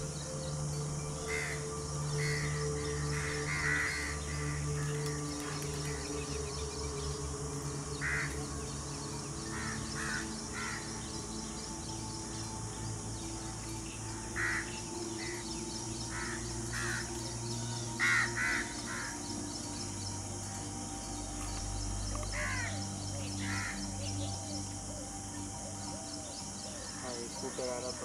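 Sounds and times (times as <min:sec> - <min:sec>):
bird calling: 0:00.0 - 0:28.0
steady low hum: 0:00.0 - 0:28.0.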